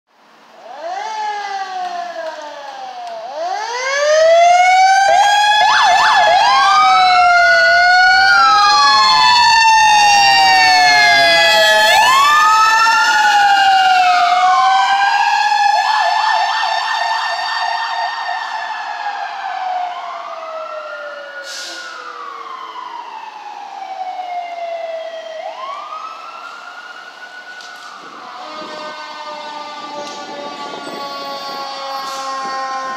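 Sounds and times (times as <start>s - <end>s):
sirens wailing and yelping: 0.5s - 32.9s.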